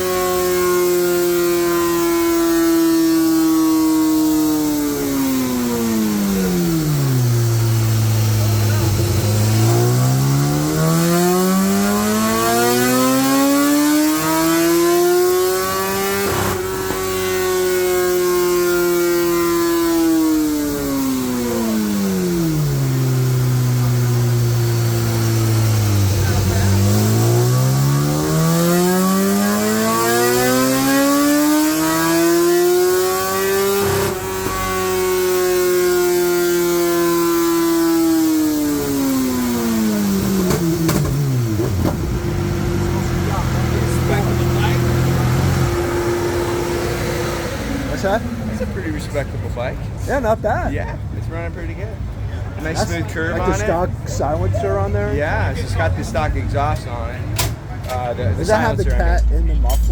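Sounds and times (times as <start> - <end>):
steady whine falling in pitch: 0.0 - 50.3
exhaust crackle: 0.0 - 59.9
motorcycle engine revving at full throttle: 0.0 - 59.9.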